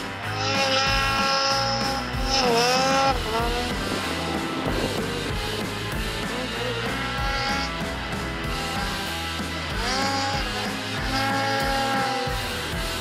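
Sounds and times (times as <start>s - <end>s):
rock music: 0.0s - 13.0s
snowmobile engine revving: 0.0s - 13.0s.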